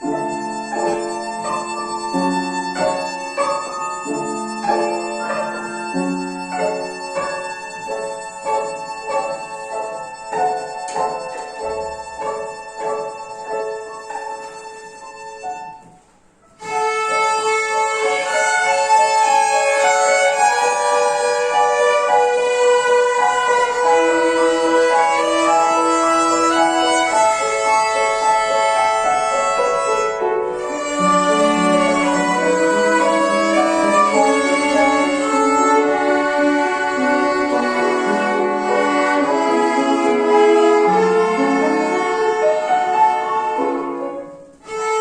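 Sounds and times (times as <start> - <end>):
violin ensemble playing: 0.0 - 15.9, 16.6 - 45.0
piano accompaniment: 0.0 - 45.0.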